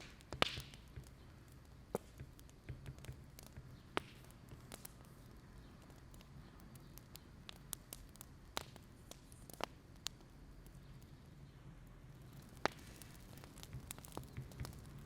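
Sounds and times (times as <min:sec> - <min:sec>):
firewood fire crackling: 0:00.0 - 0:15.0.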